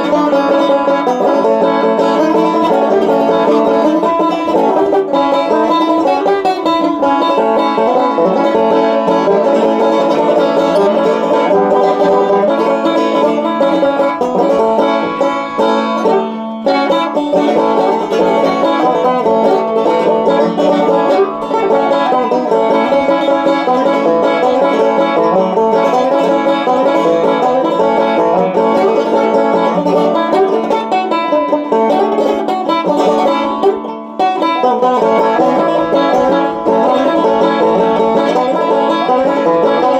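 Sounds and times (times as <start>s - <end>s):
banjo picking: 0.0s - 39.9s.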